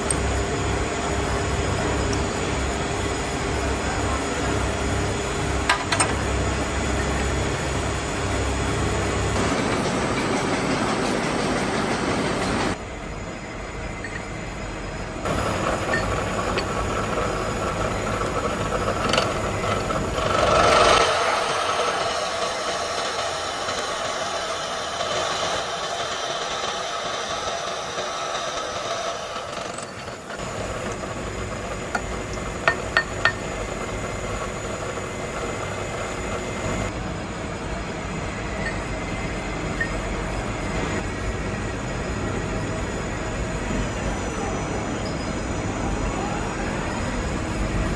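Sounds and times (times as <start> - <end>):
faint machine whine: 0.0 - 47.9
workshop machinery running: 0.0 - 47.9.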